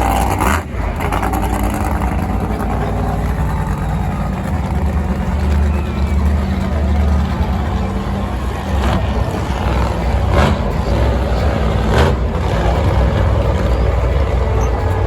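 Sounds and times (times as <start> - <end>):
monster truck engine running: 0.0 - 15.0.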